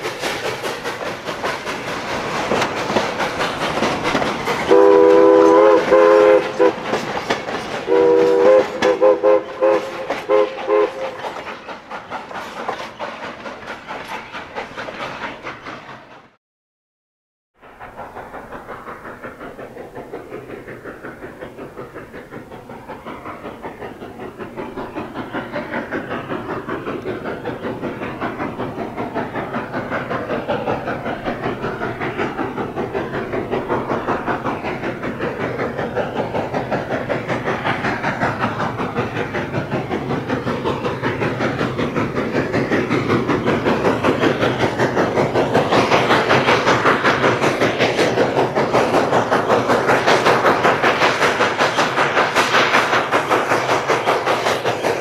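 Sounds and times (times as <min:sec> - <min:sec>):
steam locomotive chuffing: 0:00.0 - 0:16.4, 0:17.6 - 0:55.0.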